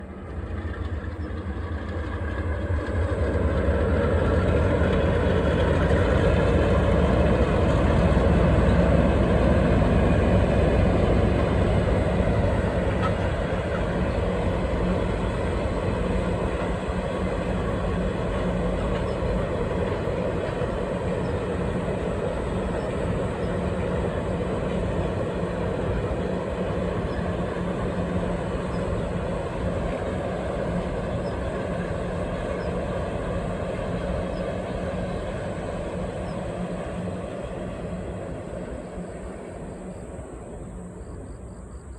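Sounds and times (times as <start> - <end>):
train running along track: 0.0 - 41.9.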